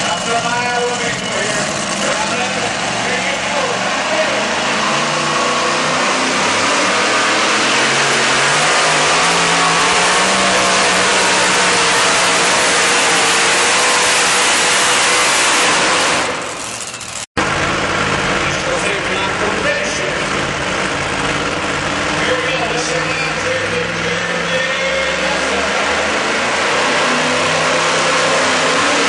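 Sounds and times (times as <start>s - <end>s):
truck engine running flat out: 0.0s - 29.0s.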